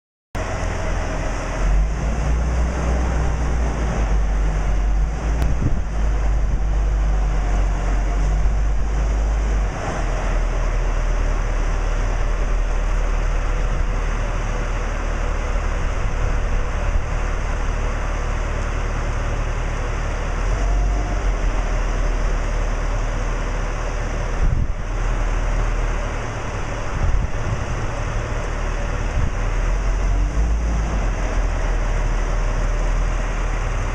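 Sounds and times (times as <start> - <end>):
forklift engine rumble: 0.4 - 33.9.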